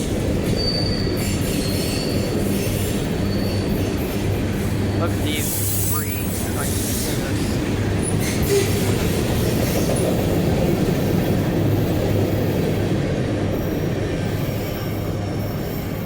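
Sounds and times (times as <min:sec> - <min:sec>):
train wheels on track: 0:00.0 - 0:16.0.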